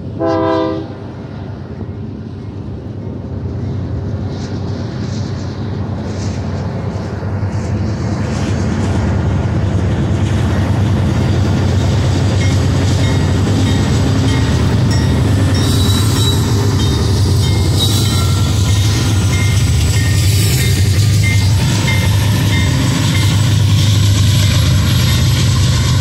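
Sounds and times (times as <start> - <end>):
locomotive engines rumbling: 0.0 - 26.0
train wheel squeal: 1.7 - 26.0.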